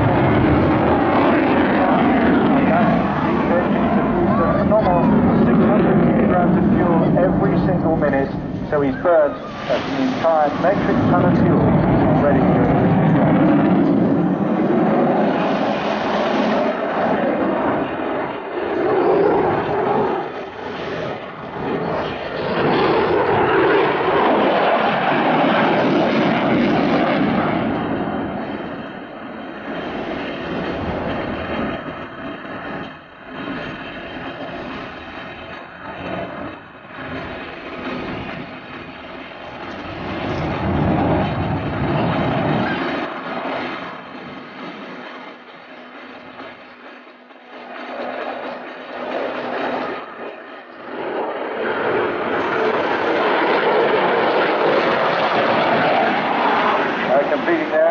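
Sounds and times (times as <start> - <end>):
loud rushing jet noise: 0.0 - 57.9.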